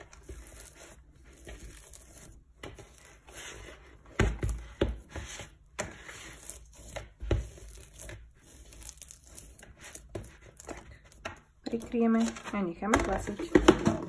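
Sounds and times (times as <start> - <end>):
dough squelching by hand: 0.0 - 14.0.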